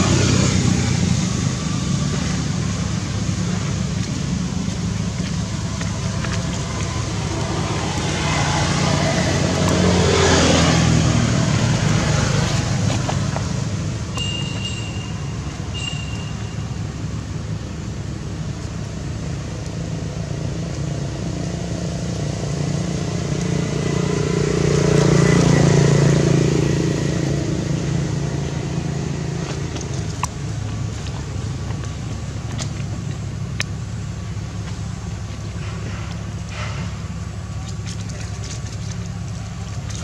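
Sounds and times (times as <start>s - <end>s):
vehicle passing: 0.0s - 16.6s, 19.9s - 40.0s
traffic engine hum: 0.0s - 40.0s.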